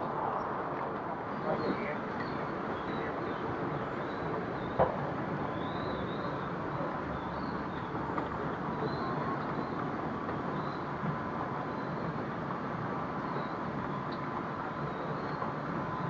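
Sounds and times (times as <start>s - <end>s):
city traffic: 0.0s - 16.0s
rolling suitcases: 0.0s - 16.0s.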